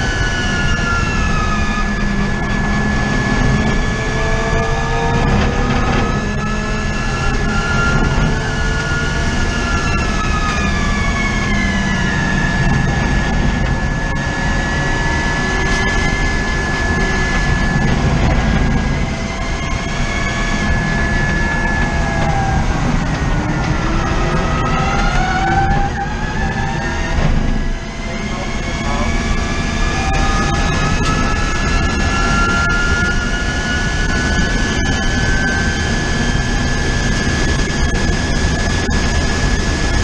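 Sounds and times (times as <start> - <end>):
electric drivetrain whine: 0.0 - 40.0
road and wind rumble: 0.0 - 40.0.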